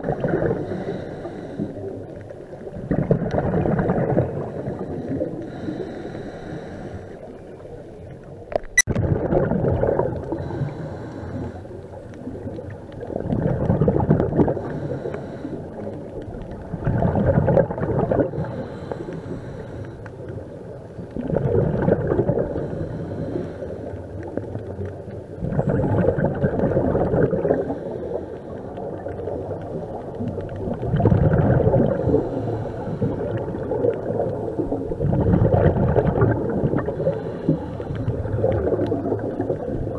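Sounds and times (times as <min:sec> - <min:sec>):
exhaled bubbles gurgling: 0:00.0 - 0:39.9.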